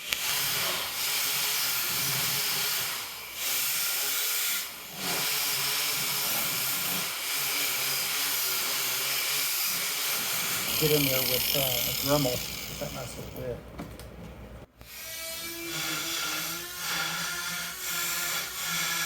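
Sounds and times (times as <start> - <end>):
angle grinder grinding metal: 0.0 - 13.6, 14.8 - 19.0.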